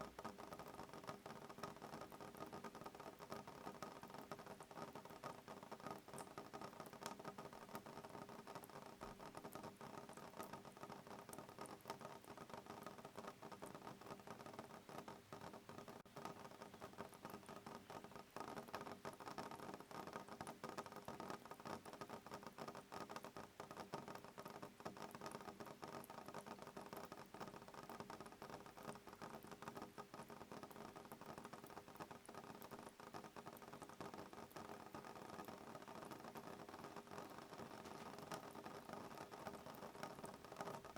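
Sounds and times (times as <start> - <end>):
rain on a window pane: 0.0 - 40.9.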